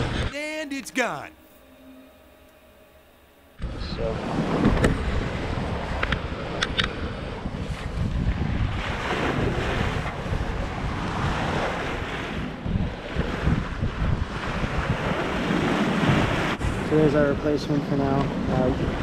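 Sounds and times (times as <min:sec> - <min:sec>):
wind buffeting microphone: 0:03.6 - 0:19.0.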